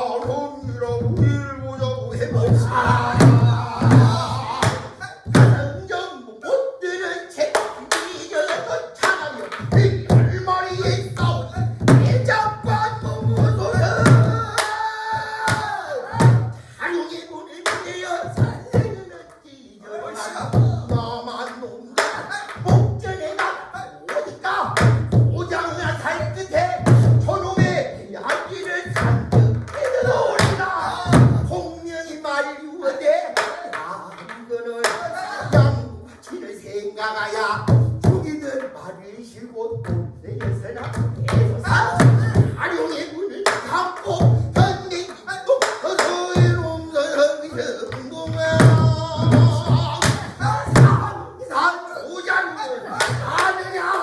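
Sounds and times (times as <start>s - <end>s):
person singing with wavering voice: 0.0s - 54.0s.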